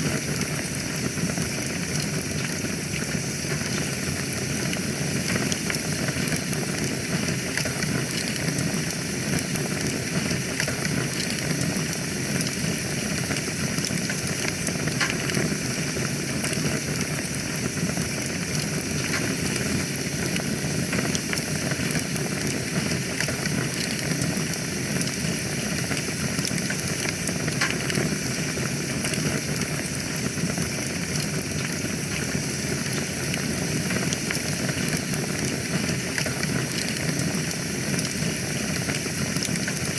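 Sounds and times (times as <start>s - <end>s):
fire rushing with crackles: 0.0s - 39.9s.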